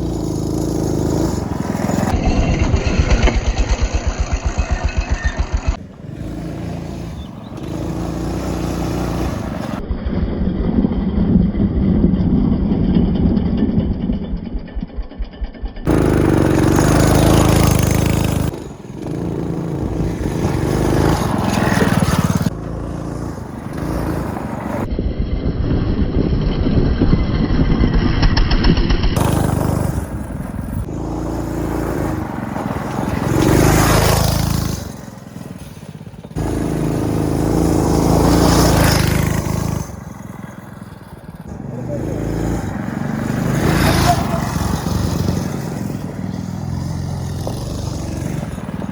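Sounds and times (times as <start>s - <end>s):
buggy engine revving: 0.0s - 14.6s, 15.7s - 24.9s, 26.7s - 48.9s.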